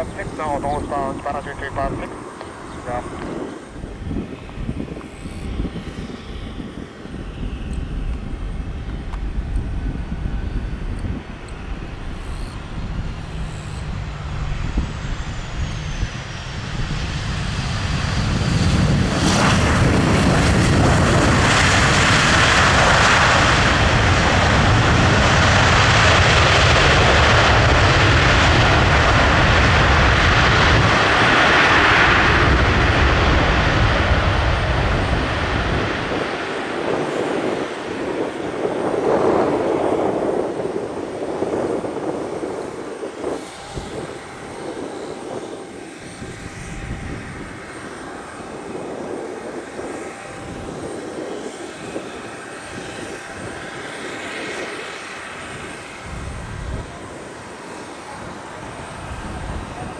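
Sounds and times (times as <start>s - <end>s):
jet engines passing: 0.0s - 59.9s.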